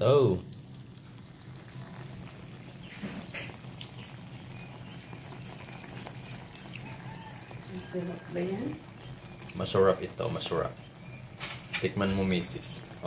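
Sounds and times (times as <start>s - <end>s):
meat bubbling and sizzling: 0.0s - 13.0s.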